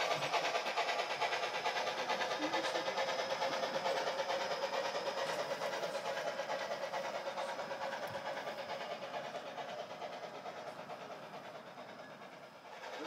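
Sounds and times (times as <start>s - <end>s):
model freight cars rolling: 0.0s - 13.0s
model steam locomotive chuffs: 0.0s - 13.0s.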